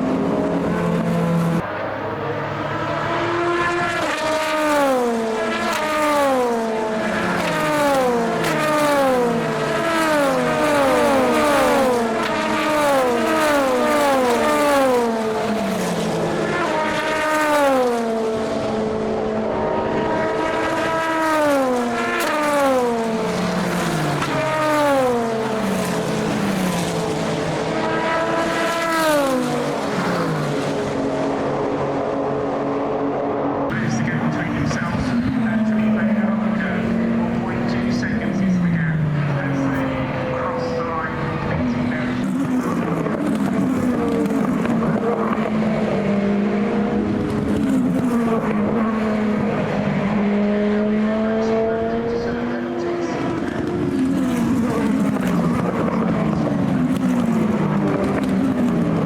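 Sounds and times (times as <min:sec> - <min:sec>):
race cars passing at full speed: 0:00.0 - 0:59.0.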